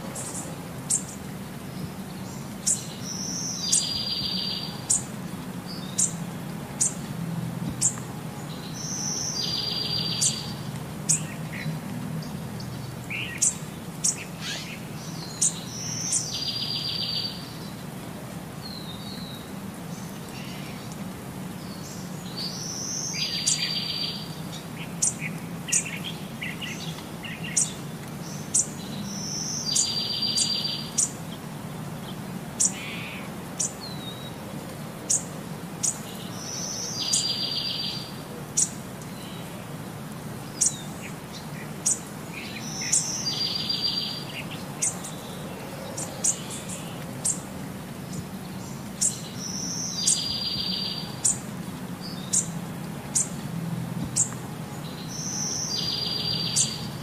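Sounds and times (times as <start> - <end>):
birds chirping: 0.0 - 7.1, 7.7 - 17.9, 21.6 - 34.4, 35.0 - 57.0.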